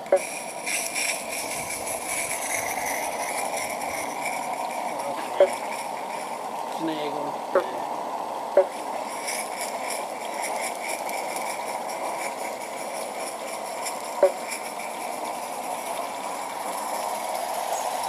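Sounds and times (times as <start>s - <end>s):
model train running on track: 0.0s - 7.8s, 8.7s - 18.0s.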